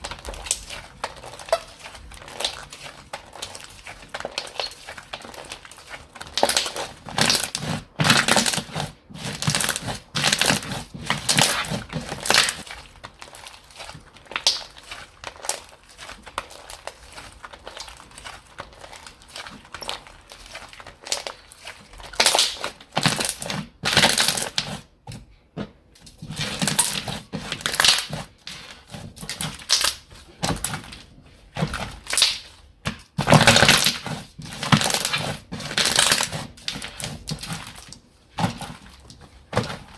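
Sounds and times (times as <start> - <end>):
slime squishing and popping: 0.0 - 24.9, 26.0 - 39.9.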